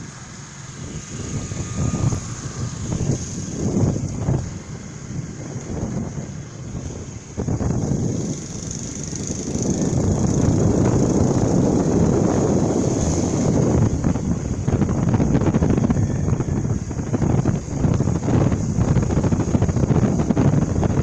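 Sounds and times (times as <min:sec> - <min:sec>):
motor scooter engine: 0:00.0 - 0:21.0
wind buffeting microphone: 0:00.0 - 0:21.0.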